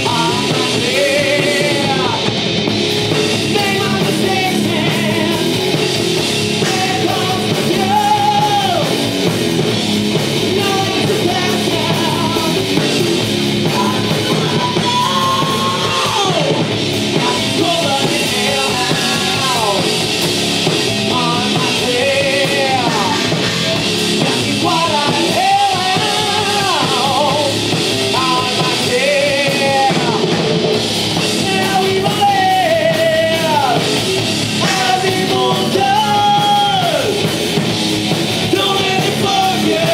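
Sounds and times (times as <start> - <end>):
lead singer's held vocals: 0.0 - 39.9
live metal band playing: 0.0 - 39.9.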